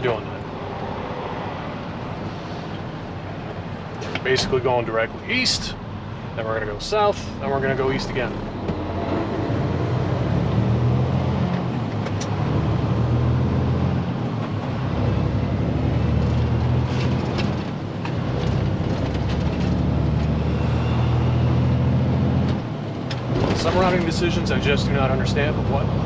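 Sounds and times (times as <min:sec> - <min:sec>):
truck diesel engine from inside cab: 0:03.9 - 0:26.0.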